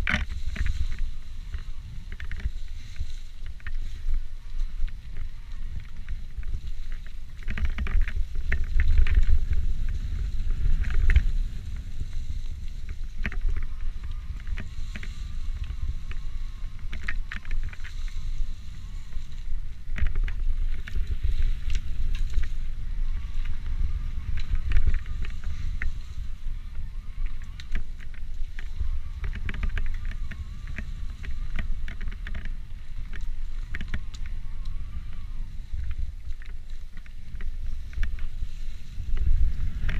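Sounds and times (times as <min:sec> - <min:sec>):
bike knocking and rattling: 0:00.0 - 0:39.9
wind on microphone: 0:00.0 - 0:39.9.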